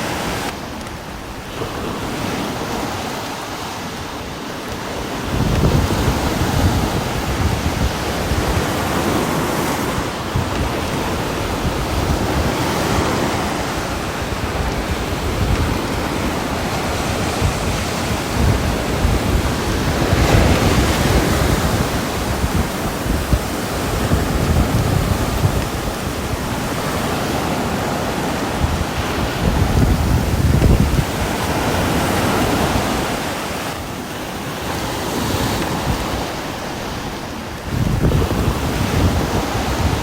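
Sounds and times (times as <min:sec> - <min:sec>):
heavy rain: 0:00.0 - 0:40.0.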